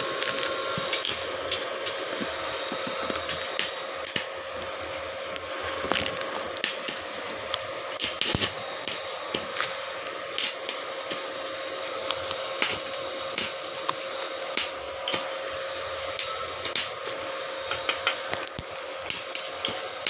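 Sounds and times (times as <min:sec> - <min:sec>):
welding arc hissing and crackling: 0:00.0 - 0:20.0.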